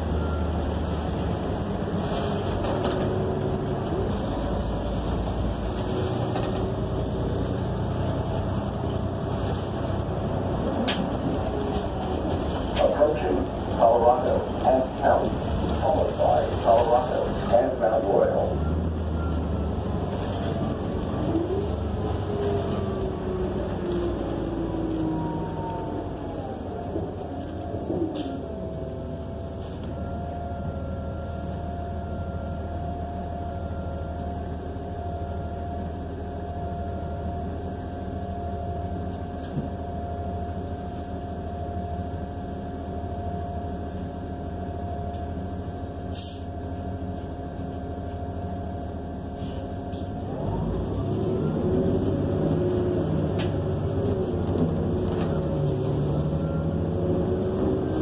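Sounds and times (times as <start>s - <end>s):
bus drivetrain hum and whine: 0.0s - 58.0s.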